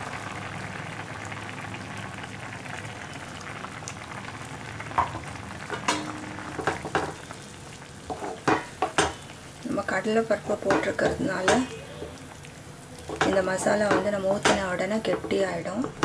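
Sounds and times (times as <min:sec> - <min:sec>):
curry bubbling in a pan: 0:00.0 - 0:16.0.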